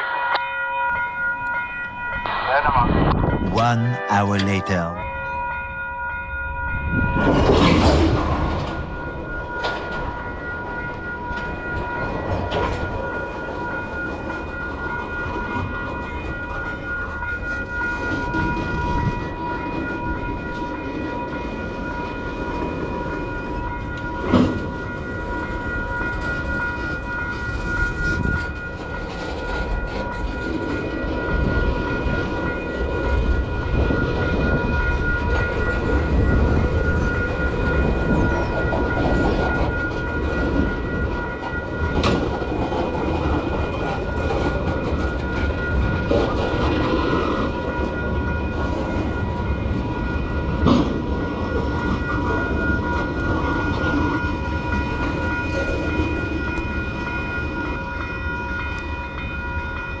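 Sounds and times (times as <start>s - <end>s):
freight train wheels clacking: 8.2s - 60.0s.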